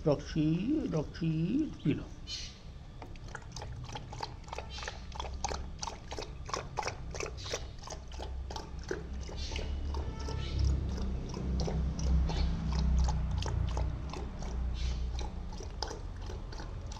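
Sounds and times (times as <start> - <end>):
puppy lapping water: 1.6 - 16.9.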